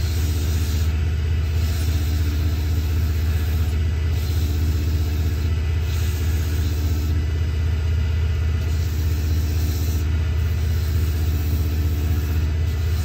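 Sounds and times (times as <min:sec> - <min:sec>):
sandpaper hissing on wood: 0:00.0 - 0:07.2, 0:08.6 - 0:13.0
lathe motor hum: 0:00.0 - 0:13.0.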